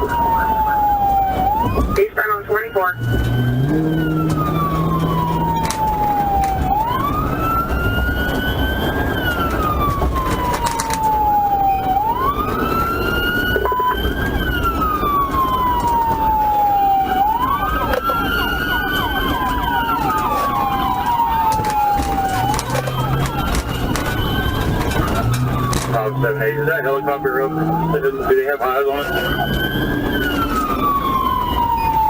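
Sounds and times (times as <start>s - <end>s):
car engine and road noise: 0.0s - 32.0s
police siren wailing: 0.0s - 32.0s
second siren sweeping: 0.0s - 32.0s.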